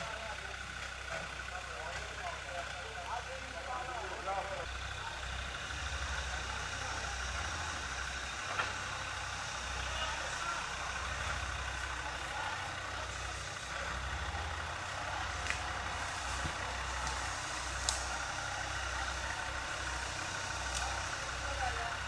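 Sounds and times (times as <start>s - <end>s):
diesel engine low drone: 0.0s - 22.0s.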